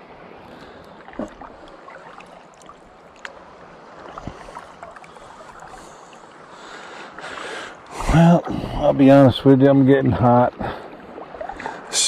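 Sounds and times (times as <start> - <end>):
water lapping against kayak hull: 0.0 - 12.0.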